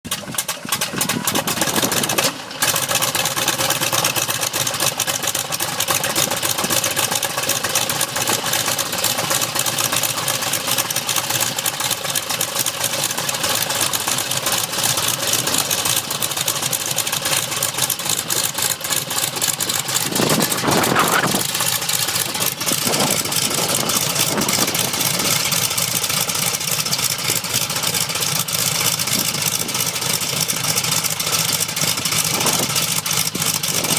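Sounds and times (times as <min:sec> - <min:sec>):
engine starting and running: 0:00.0 - 0:33.9.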